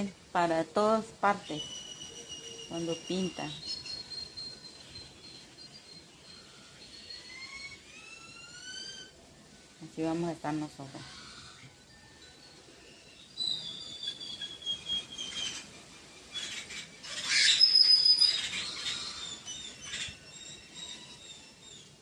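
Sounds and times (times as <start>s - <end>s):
birds chirping and whistling: 0.0s - 10.3s, 11.1s - 22.0s.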